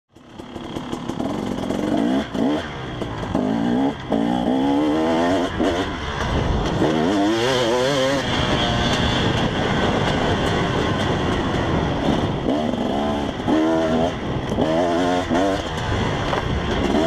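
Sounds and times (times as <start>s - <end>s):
dirt bike engine revving: 0.2s - 17.0s.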